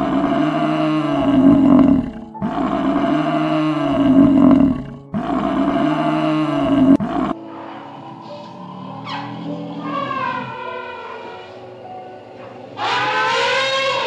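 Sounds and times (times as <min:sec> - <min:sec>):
large animal deep calls: 0:00.0 - 0:11.6, 0:12.7 - 0:14.0.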